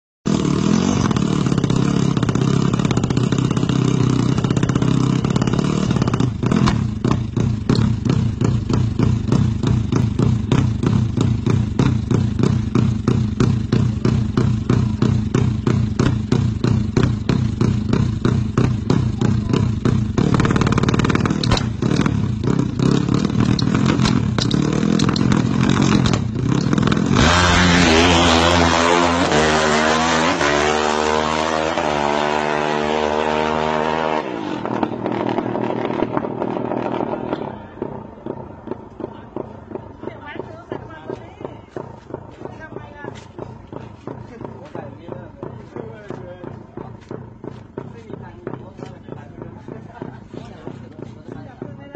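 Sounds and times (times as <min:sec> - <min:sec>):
motorcycle engine: 0:00.3 - 0:51.9.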